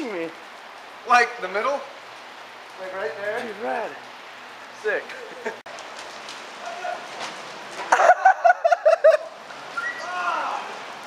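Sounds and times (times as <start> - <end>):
rain on wet concrete: 0.0 - 11.0.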